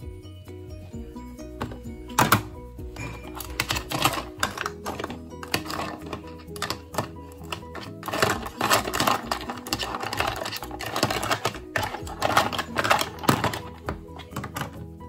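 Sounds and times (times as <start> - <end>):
toy food clattering in a pot: 1.6 - 15.0.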